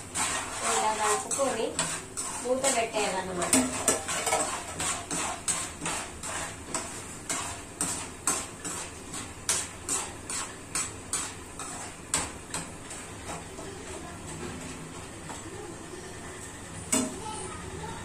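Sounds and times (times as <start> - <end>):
metal spoon scraping kernels in pan: 0.0 - 15.1.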